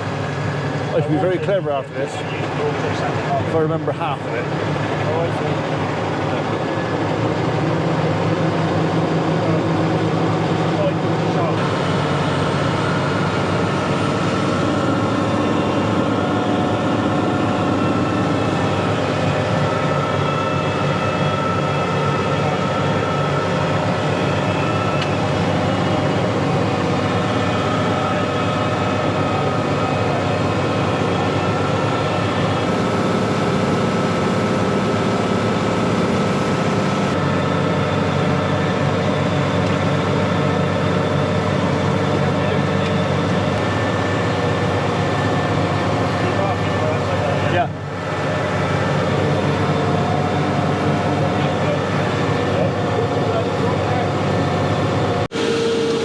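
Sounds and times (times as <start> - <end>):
steady whining tones: 0.0 - 56.0
tractor engine running: 0.0 - 56.0.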